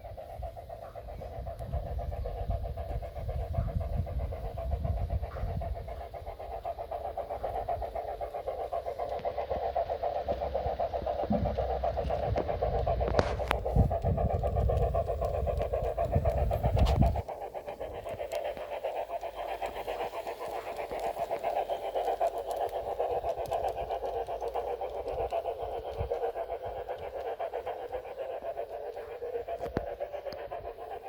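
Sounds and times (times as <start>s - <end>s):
model steam locomotive chuffs: 0.0s - 31.0s.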